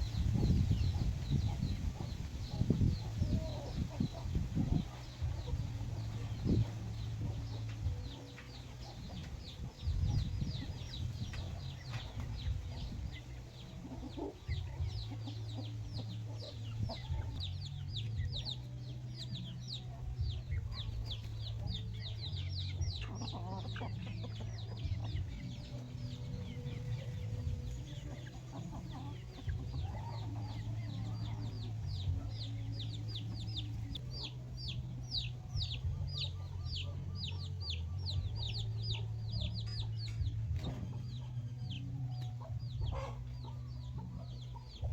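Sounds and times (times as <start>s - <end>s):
chicks peeping: 0.0s - 44.9s
hens clucking: 0.0s - 44.9s
steady low hum: 0.0s - 44.9s.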